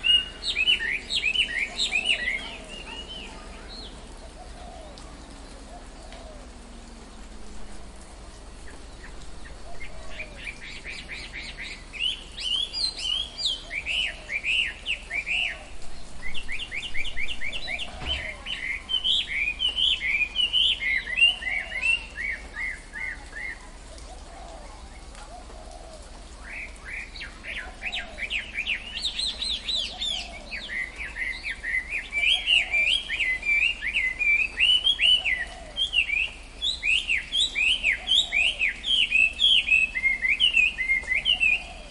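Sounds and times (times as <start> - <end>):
birds chirping and trilling: 0.0 - 41.9.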